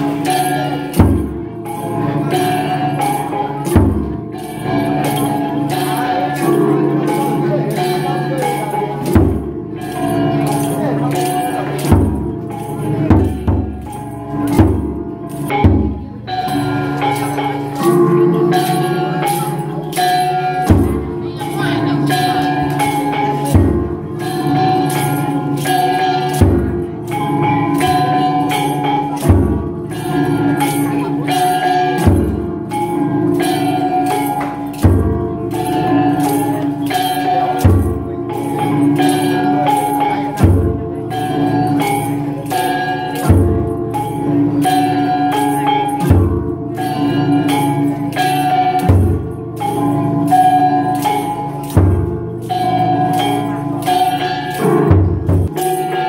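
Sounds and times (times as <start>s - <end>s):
ceremonial music with heavy beat: 0.0s - 56.0s.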